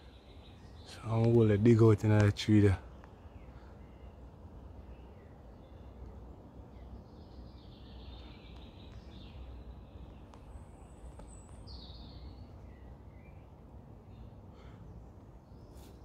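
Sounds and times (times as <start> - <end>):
small birds singing: 0.0 - 16.0.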